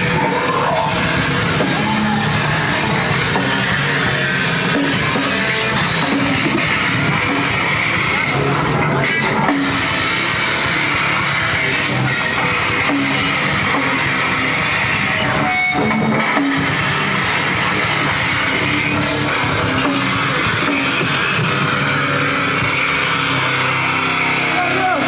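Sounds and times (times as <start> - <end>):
bass: 0.0 - 25.0
distorted electric guitars: 0.0 - 25.0
drum kit: 0.0 - 25.0.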